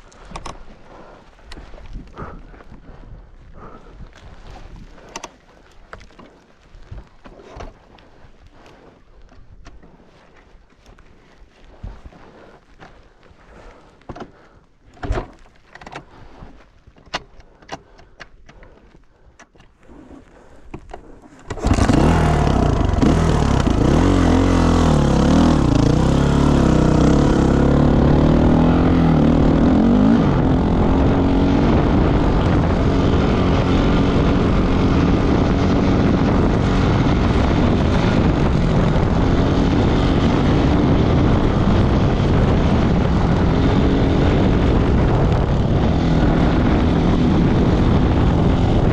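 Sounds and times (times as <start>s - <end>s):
off-road motorcycle engine: 0.0s - 48.9s.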